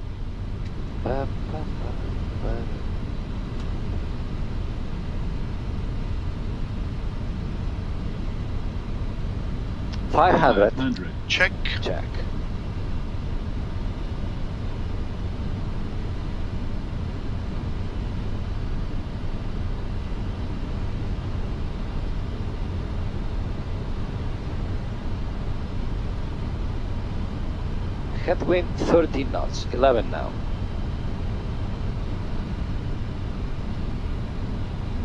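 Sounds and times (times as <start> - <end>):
airflow and jet engines rumbling: 0.0 - 35.0.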